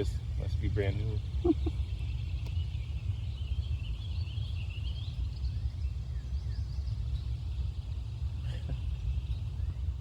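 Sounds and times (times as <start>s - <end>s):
small birds singing faintly: 0.0s - 10.0s
steady low rumble: 0.0s - 10.0s.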